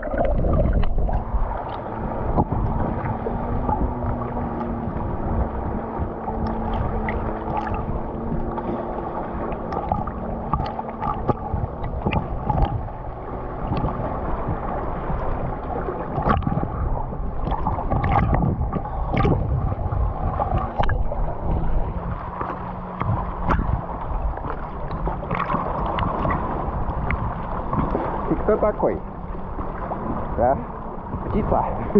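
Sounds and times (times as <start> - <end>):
water splashing against rocks: 0.0 - 29.1
low engine hum: 0.0 - 31.9.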